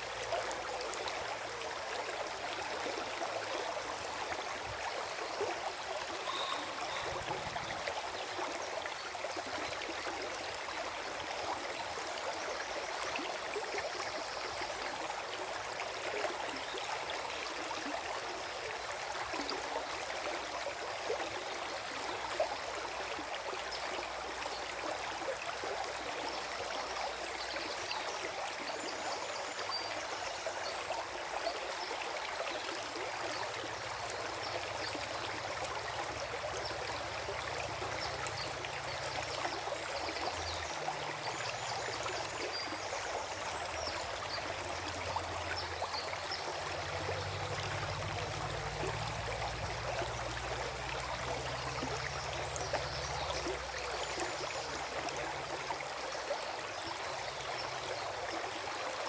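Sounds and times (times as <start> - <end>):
stream flowing and gurgling: 0.0 - 59.0.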